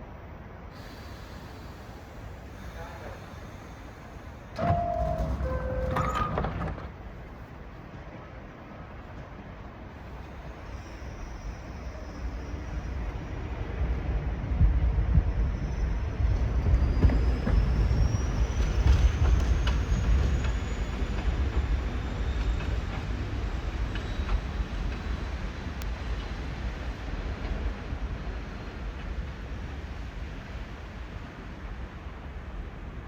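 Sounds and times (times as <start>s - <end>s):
subway train rumble: 0.0s - 33.0s.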